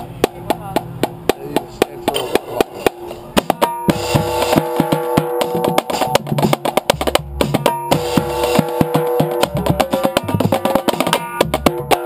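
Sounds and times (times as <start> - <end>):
marching drumline cadence: 0.0 - 12.0.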